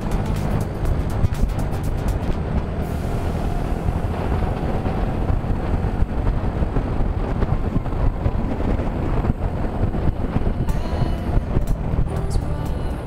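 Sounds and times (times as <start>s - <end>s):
motorcycle engine and tyres rumbling: 0.0s - 13.0s
wind buffeting on microphone: 0.0s - 13.0s.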